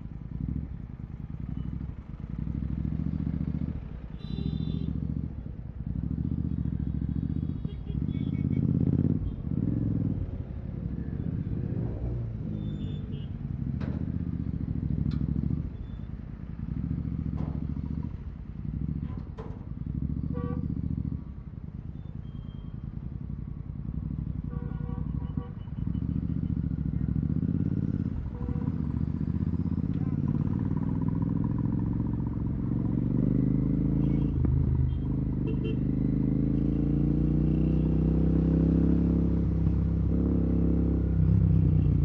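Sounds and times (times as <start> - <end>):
motorcycle engine revving: 1.3 - 21.5, 22.8 - 42.0.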